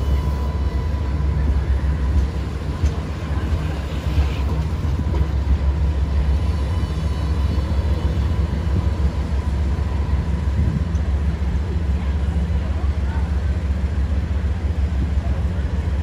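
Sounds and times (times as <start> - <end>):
tram rumbling past: 0.0 - 16.0.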